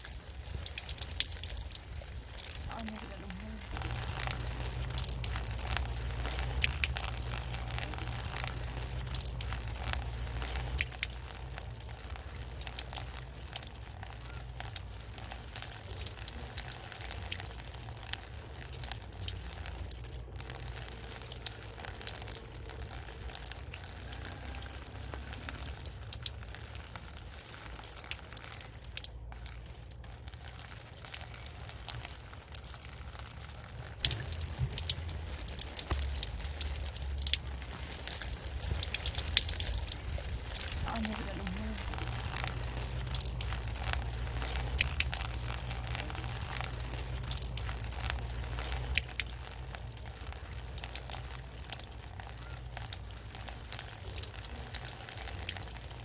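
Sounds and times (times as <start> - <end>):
rain falling: 0.0 - 56.0
low rumble: 0.1 - 27.4, 28.2 - 51.6.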